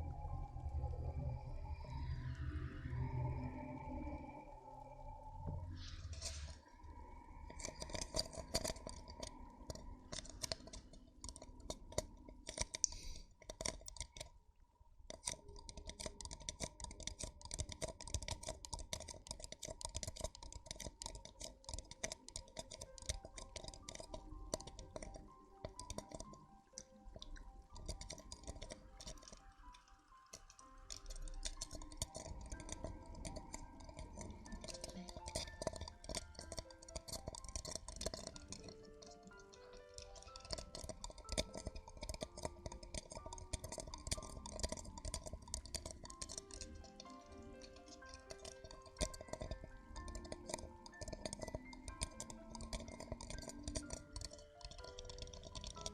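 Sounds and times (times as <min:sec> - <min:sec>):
faint background music: 0:00.0 - 0:55.9
crackling and scratching on microphone: 0:05.4 - 0:14.4, 0:15.1 - 0:55.9.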